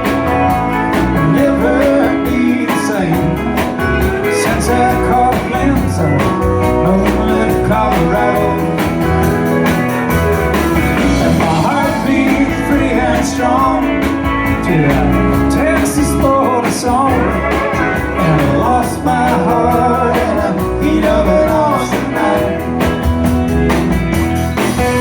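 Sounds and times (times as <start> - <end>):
bass: 0.0 - 25.0
guitar lines: 0.0 - 25.0
steady drum beat: 0.0 - 25.0.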